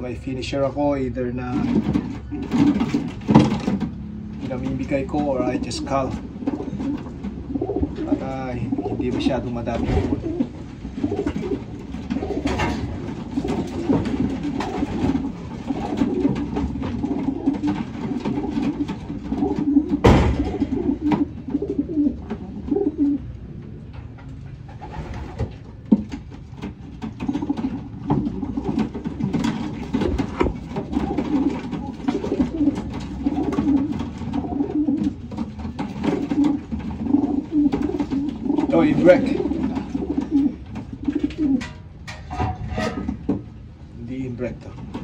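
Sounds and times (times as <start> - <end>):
pigeons cooing: 1.5 - 23.4, 26.5 - 41.8.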